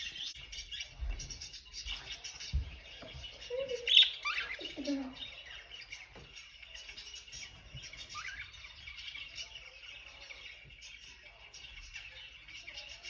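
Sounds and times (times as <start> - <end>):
lovebirds twittering: 0.0 - 13.0.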